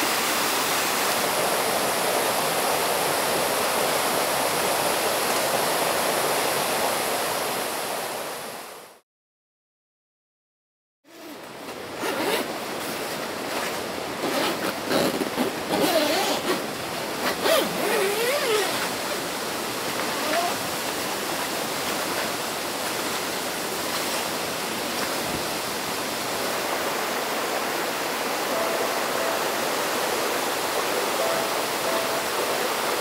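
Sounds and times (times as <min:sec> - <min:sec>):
stream rushing: 0:00.0 - 0:09.0, 0:11.2 - 0:33.0.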